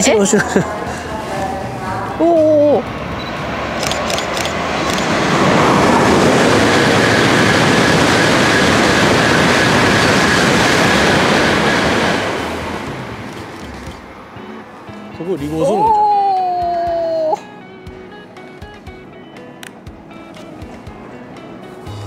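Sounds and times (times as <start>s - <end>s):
train passing at speed: 0.0s - 15.9s, 16.5s - 22.0s.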